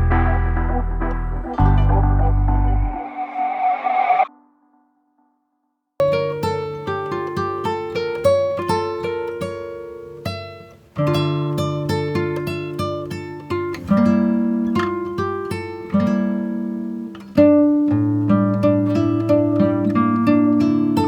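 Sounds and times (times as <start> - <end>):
acoustic guitar picking melody: 0.0 - 2.9, 6.0 - 21.0.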